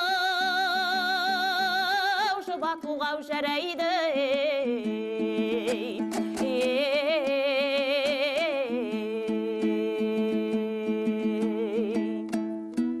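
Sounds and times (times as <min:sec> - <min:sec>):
rapidly strummed lute: 0:00.0 - 0:13.0.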